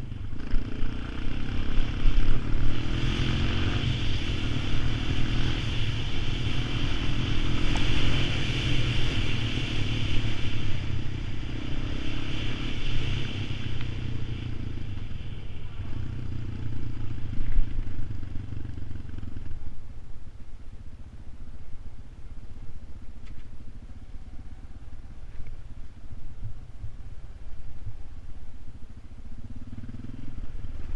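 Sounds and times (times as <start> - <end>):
atv engine running: 0.0 - 30.9.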